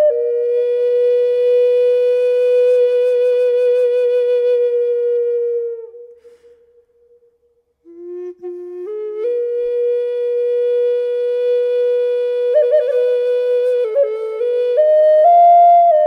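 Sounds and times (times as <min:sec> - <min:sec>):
flute long held note: 0:00.0 - 0:16.0.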